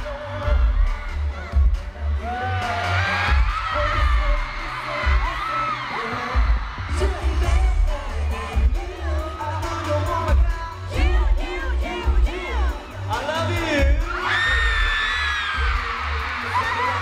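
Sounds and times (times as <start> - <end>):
person singing: 0.0 - 17.0
pop song over concert sound system: 0.0 - 17.0
pulsing bass beat: 0.0 - 17.0.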